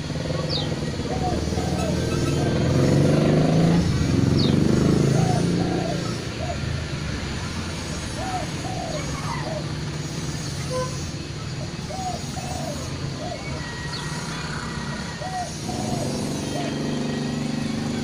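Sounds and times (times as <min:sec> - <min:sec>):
doves cooing: 0:00.1 - 0:18.0.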